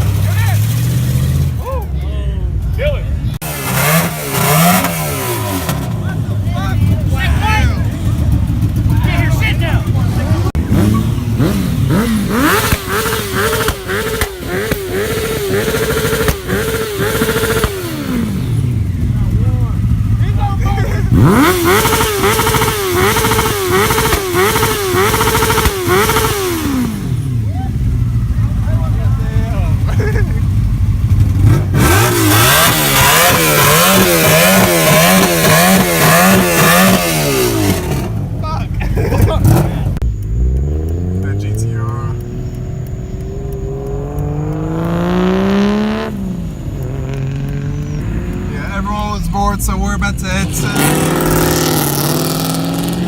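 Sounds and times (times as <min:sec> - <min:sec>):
engine revving: 0:00.0 - 0:01.6, 0:03.3 - 0:53.0.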